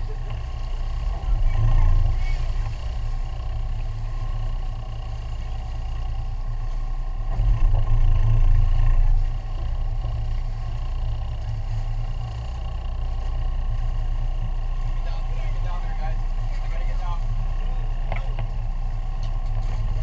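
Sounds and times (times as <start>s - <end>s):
boat engines rumbling: 0.0s - 20.0s.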